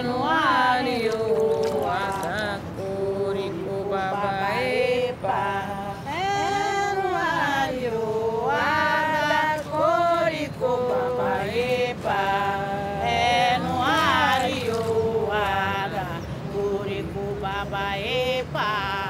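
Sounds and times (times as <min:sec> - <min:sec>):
women singing a chant: 0:00.0 - 0:19.0.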